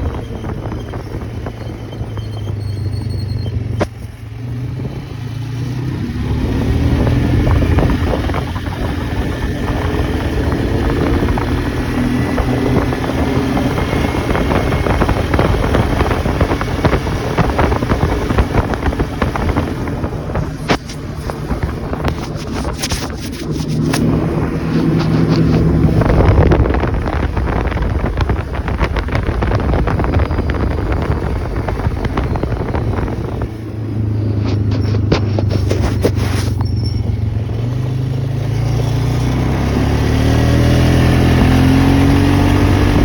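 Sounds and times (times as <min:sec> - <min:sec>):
quad bike engine running: 0:00.0 - 0:43.0.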